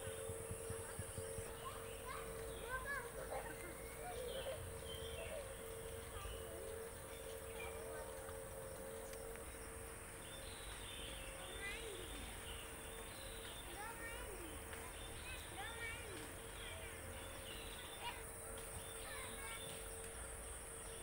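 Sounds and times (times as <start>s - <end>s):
faint distant voices: 0.0s - 21.0s
insect hiss: 0.0s - 21.0s
low steady hum: 0.0s - 21.0s.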